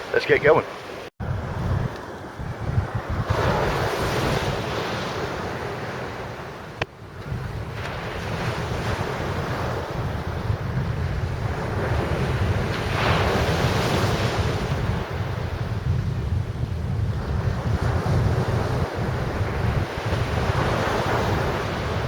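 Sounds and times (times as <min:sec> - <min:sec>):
sea surf washing on beach: 0:00.0 - 0:22.0
wind buffeting microphone: 0:01.2 - 0:22.0.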